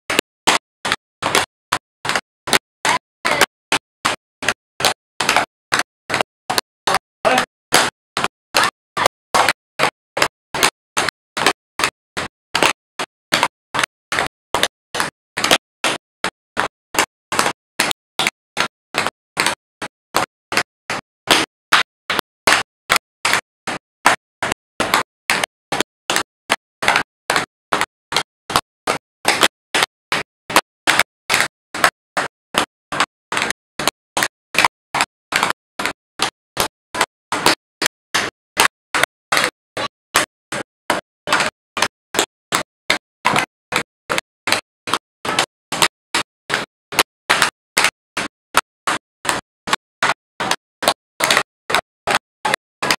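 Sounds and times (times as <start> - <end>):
tap shoes tapping on board: 0.1 - 52.9.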